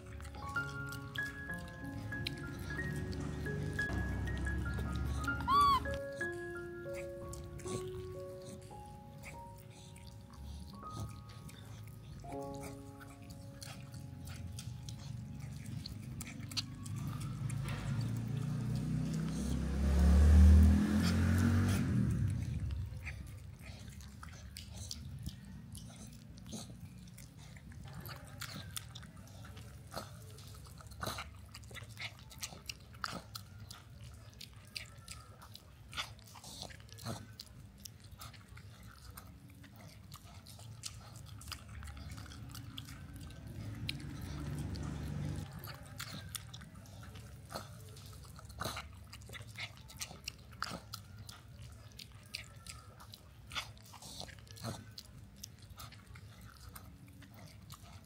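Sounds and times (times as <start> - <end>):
animals chewing and crunching: 0.0 - 58.0.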